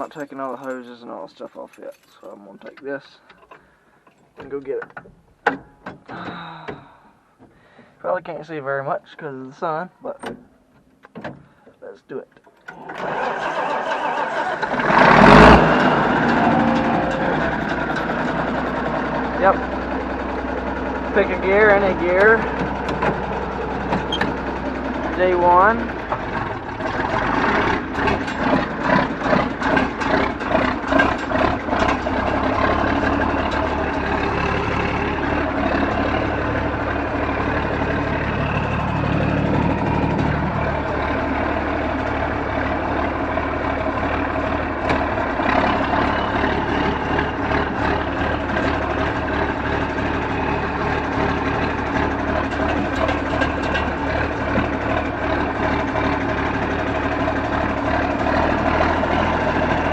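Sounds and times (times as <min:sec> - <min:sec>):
diesel tractor engine running: 0:00.0 - 0:03.8, 0:12.7 - 0:59.9.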